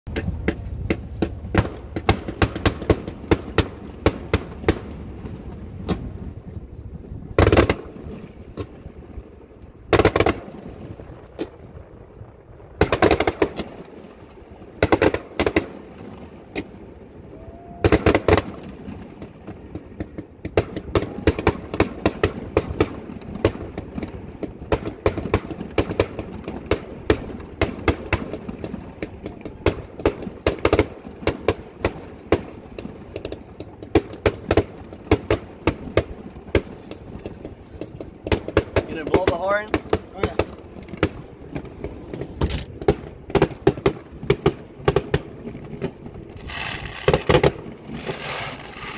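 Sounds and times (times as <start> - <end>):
fireworks booms: 0.1 - 48.9
fireworks crackle: 0.1 - 48.9
fireworks cracks and pops: 0.1 - 48.9.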